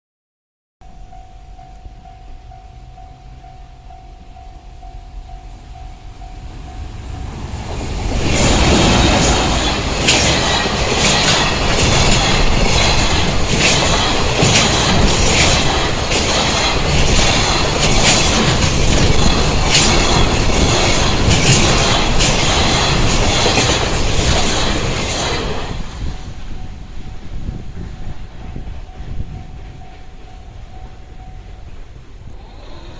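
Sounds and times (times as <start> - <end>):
crossing warning bell: 0.8 - 24.4, 26.0 - 32.7
freight train wheels clacking: 0.8 - 32.9.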